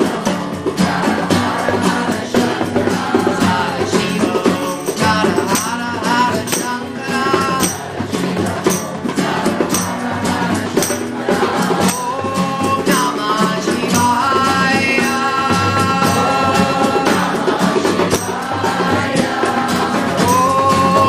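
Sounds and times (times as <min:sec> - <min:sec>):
hand percussion: 0:00.0 - 0:21.0
tambourine jingling: 0:00.0 - 0:21.0.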